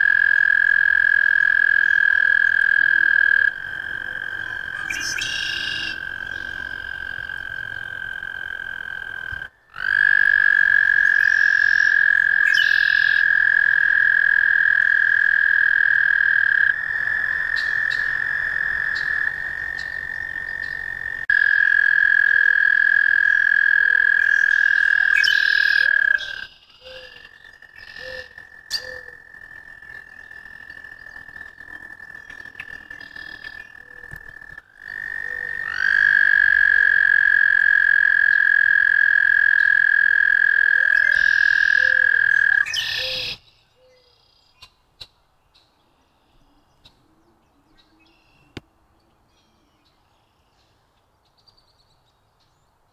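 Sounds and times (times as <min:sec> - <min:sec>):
toads trilling: 0:00.0 - 0:43.4.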